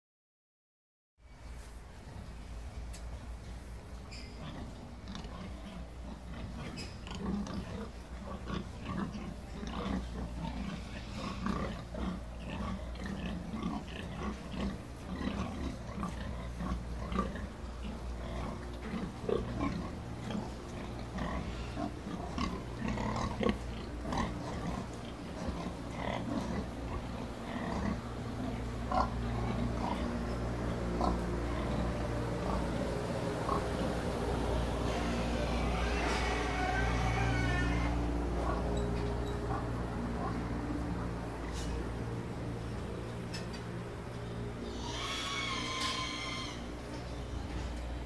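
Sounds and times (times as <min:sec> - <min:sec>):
steady low hum: 0:01.3 - 0:48.0
pigs grunting: 0:04.2 - 0:43.5, 0:44.4 - 0:47.5.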